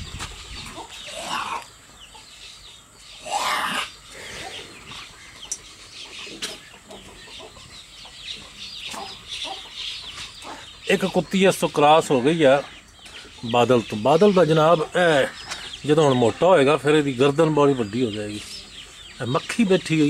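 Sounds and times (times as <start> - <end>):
chickens clucking: 0.0 - 20.0
small birds chirping: 0.0 - 20.0.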